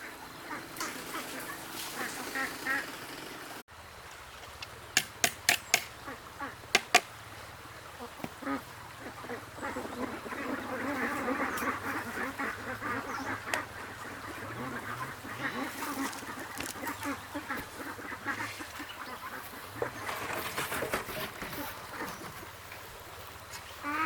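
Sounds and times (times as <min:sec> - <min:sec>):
ducks quacking: 0:00.0 - 0:03.6, 0:05.8 - 0:07.1, 0:07.9 - 0:24.0.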